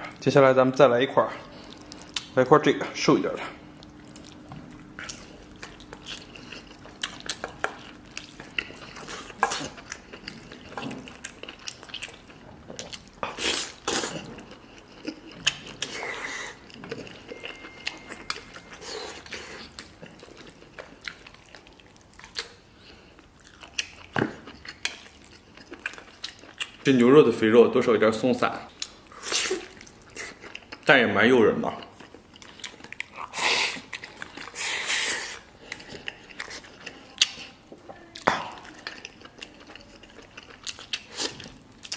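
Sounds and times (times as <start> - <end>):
wet chewing: 1.4 - 2.4, 3.5 - 27.0, 28.7 - 30.9, 31.7 - 41.9.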